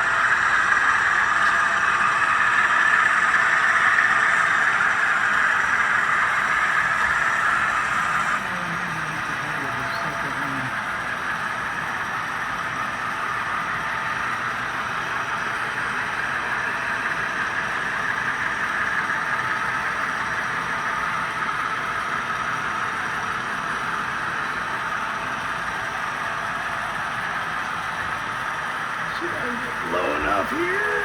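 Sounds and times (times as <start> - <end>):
model train whirring on rails: 0.0 - 31.0.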